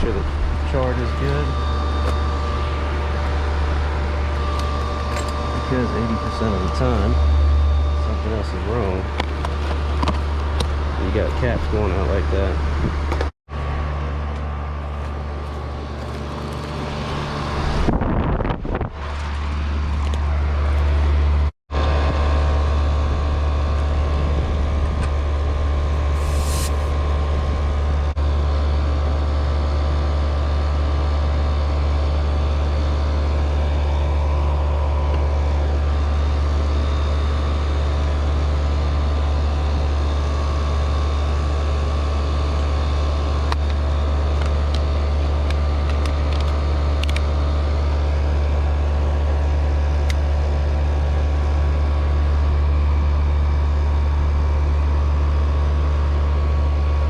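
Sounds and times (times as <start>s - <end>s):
air conditioner compressor hum: 0.0s - 57.0s
outdoor fan turning: 0.0s - 57.0s.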